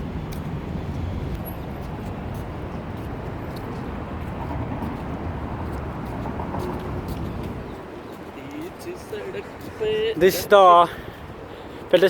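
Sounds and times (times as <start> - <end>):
passing road traffic rumble: 0.0 - 12.0.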